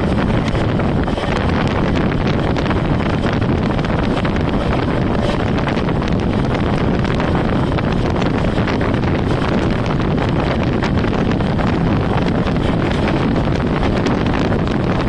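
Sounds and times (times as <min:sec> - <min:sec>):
train rushing past: 0:00.0 - 0:15.0
wheel clatter over rails: 0:00.0 - 0:15.0
wind buffeting microphone: 0:00.0 - 0:15.0.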